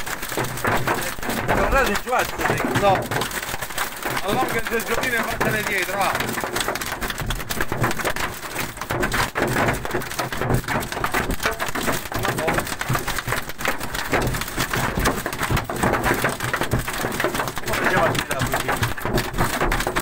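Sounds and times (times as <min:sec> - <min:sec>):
hail pelting a car roof: 0:00.0 - 0:20.0.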